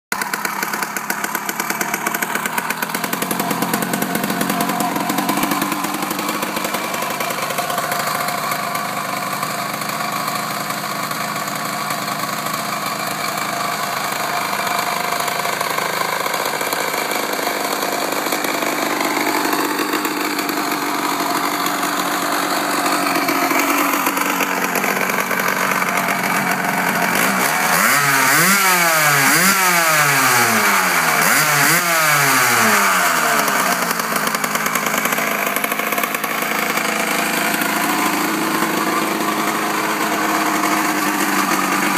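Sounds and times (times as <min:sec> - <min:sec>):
dune buggy engine idling and revving: 0:00.1 - 0:41.9.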